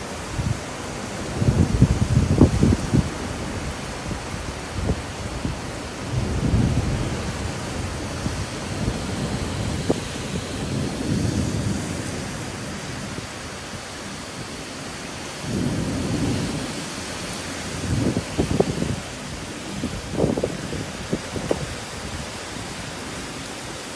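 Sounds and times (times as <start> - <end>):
heavy rain hissing: 0.0 - 23.9.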